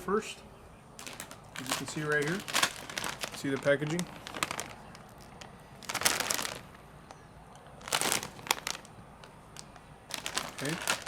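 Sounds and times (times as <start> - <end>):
snack bag crinkling: 1.0 - 6.8, 7.8 - 11.0.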